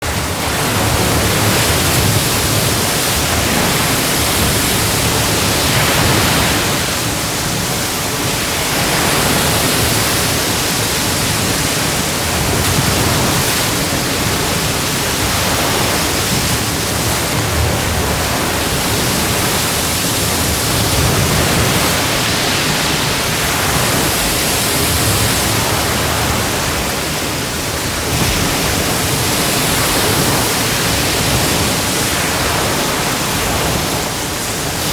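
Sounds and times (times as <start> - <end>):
waves crashing on shore: 0.0 - 34.9.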